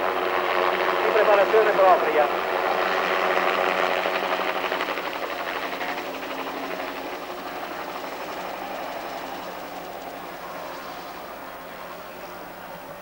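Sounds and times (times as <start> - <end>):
helicopter rotor beating: 0.0 - 13.0.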